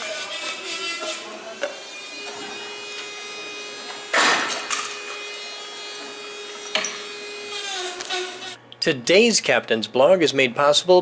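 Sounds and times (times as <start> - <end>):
steady background hum: 2.0 - 11.0.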